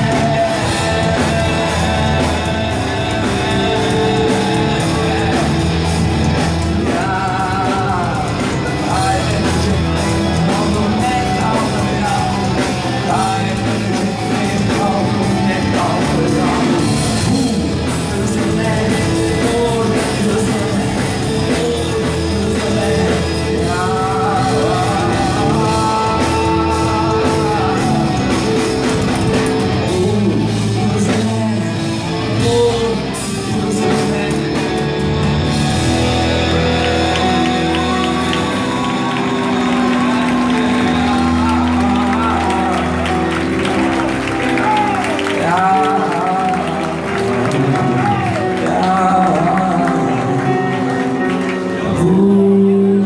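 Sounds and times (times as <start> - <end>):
wavering lead melody: 0.0 - 51.7
rock band playing: 0.0 - 53.0.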